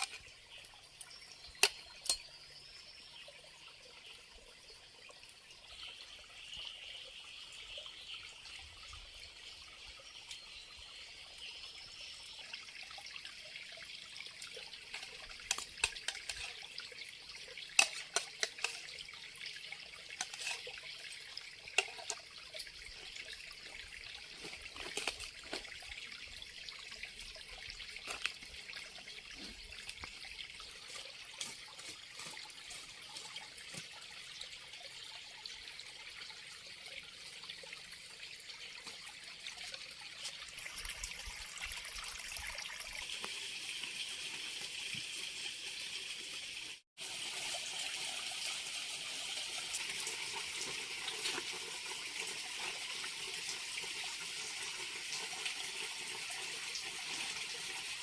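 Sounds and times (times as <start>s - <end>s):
water trickling and flowing: 0.0s - 58.0s.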